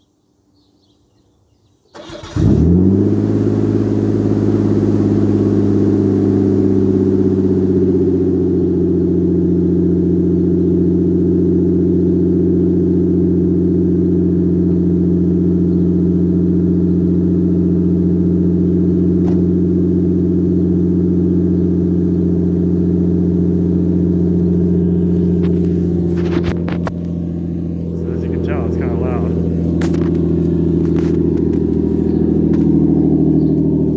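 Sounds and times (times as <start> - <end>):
car engine idling: 2.0 - 33.9.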